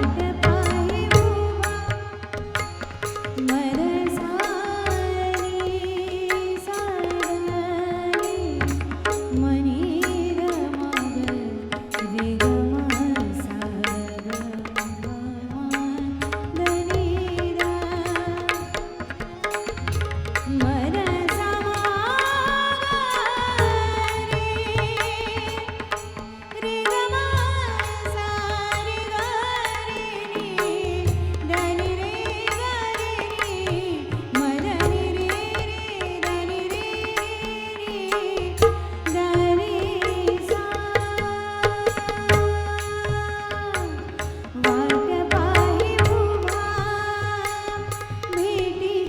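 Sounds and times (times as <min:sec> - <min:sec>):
pakhawaj drum strokes: 0:00.0 - 0:49.0
tabla drum strokes: 0:00.0 - 0:49.0
woman singing: 0:00.0 - 0:49.0.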